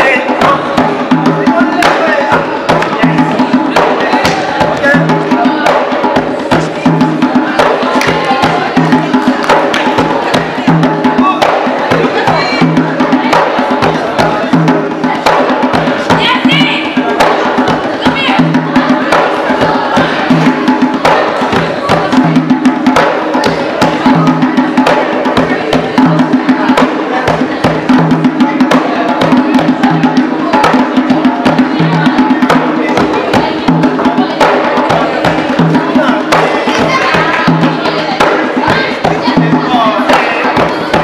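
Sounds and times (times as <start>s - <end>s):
drums and percussion: 0.0s - 41.0s.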